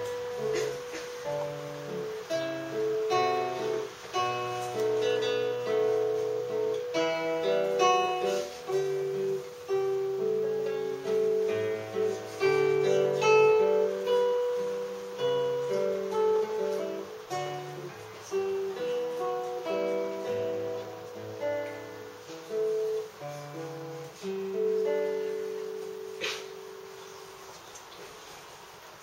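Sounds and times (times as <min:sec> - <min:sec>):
acoustic guitar playing: 0:00.0 - 0:27.6.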